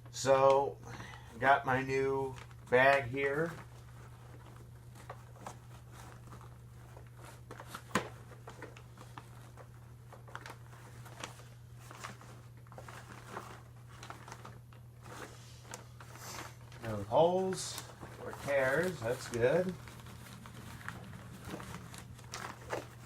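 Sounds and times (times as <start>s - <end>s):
paper bag crinkling and rustling: 1.1s - 23.0s.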